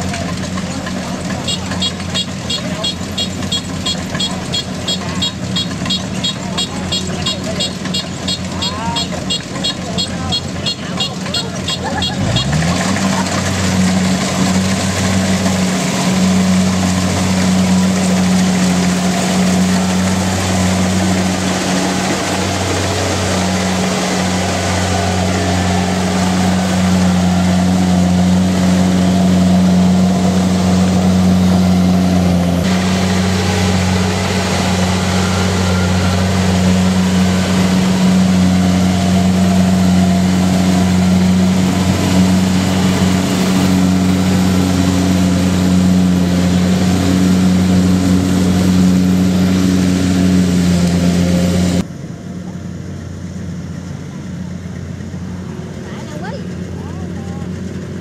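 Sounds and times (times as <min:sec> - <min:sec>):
combine harvester engine at high revs: 0:00.0 - 0:58.0.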